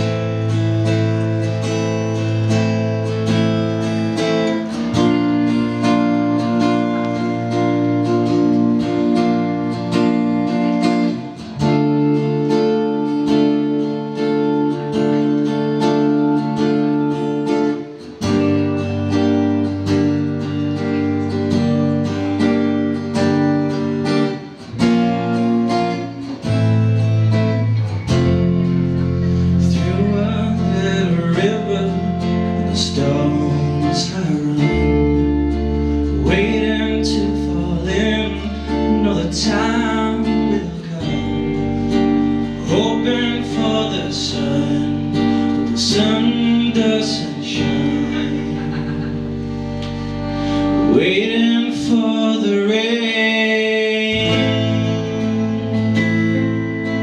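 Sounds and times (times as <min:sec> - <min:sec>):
steady low bass: 0:00.0 - 0:52.8, 0:54.1 - 0:57.0
strummed acoustic guitar chords: 0:00.0 - 0:57.0.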